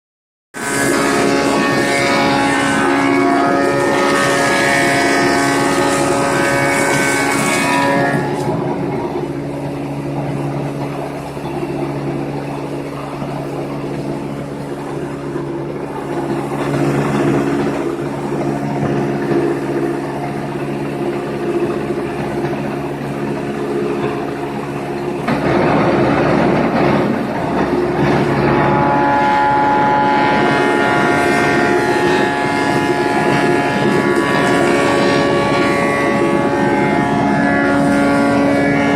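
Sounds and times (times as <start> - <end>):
thickness planer planing wood: 0.6 - 11.2, 13.0 - 38.9.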